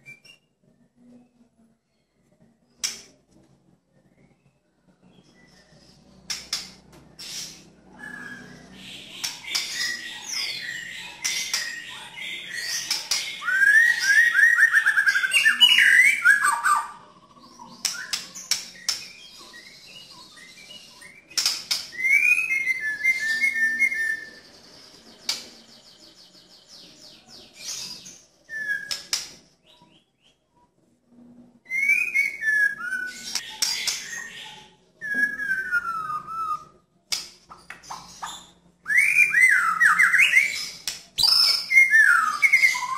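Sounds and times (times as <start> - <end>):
bird singing whistles and trills: 0.0 - 1.4, 7.2 - 30.4, 31.6 - 36.9, 37.6 - 42.9.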